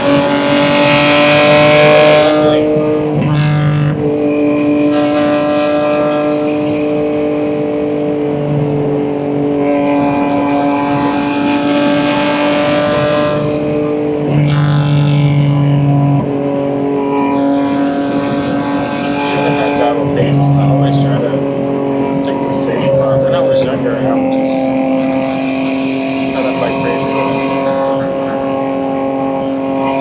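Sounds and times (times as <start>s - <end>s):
exhaust drone: 0.0s - 30.0s.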